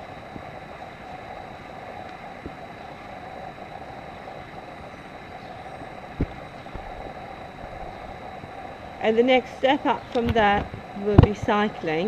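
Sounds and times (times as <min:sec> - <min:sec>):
outdoor background noise: 0:00.0 - 0:12.0
thin high whine: 0:00.0 - 0:12.0.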